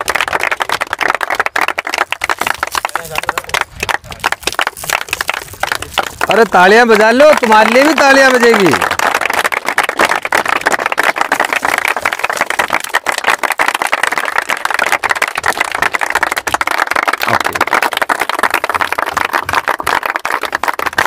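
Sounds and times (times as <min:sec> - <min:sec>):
crowd applauding: 0:00.0 - 0:21.0.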